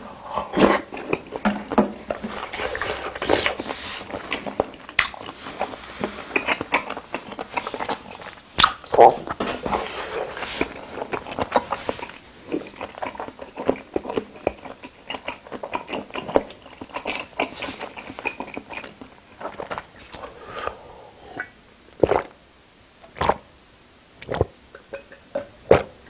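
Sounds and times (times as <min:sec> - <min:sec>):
person chewing food: 0:00.0 - 0:22.4, 0:23.1 - 0:23.5, 0:24.2 - 0:26.0.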